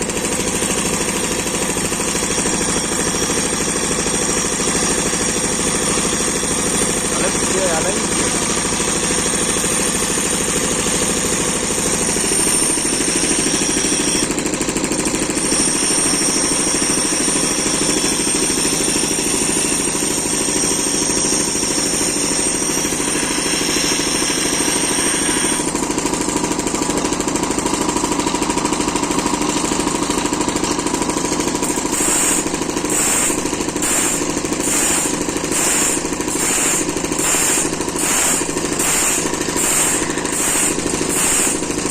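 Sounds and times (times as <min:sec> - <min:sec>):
grinder sharpening saw blade: 0:00.2 - 0:14.5, 0:15.3 - 0:26.0, 0:31.0 - 0:41.9.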